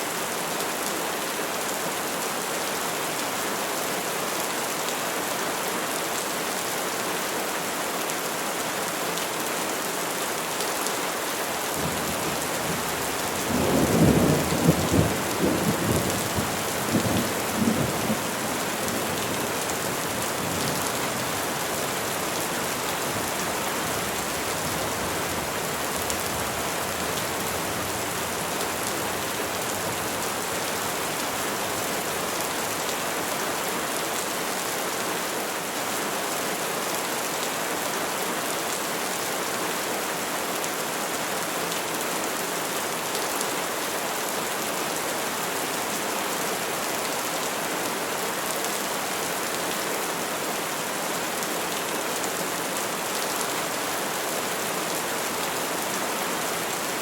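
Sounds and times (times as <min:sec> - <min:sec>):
rain falling on trees: 0:00.0 - 0:57.0.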